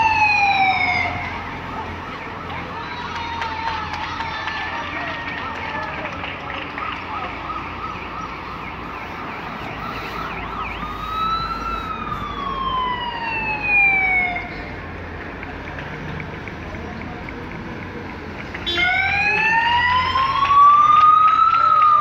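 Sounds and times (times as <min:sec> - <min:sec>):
police siren wailing: 0:00.0 - 0:14.5, 0:18.6 - 0:22.0.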